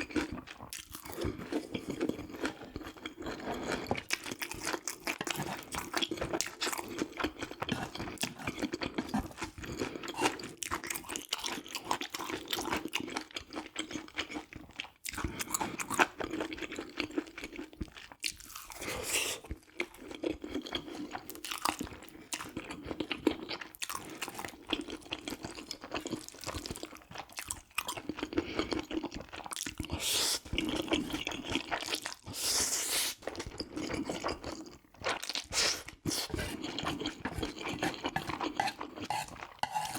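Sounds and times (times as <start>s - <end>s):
crunchy chewing: 0.0s - 32.4s, 33.1s - 39.9s.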